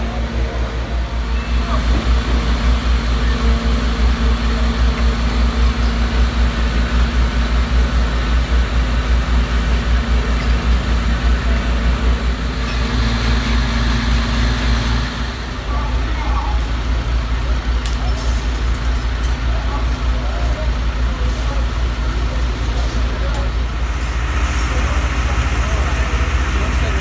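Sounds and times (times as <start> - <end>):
fire truck engines rumbling: 0.0 - 27.0.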